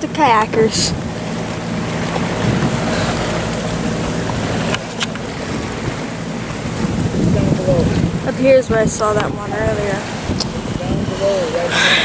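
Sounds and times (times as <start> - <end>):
boat engine humming: 0.0 - 12.0
water rushing: 0.0 - 12.0
wind rushing: 0.8 - 12.0.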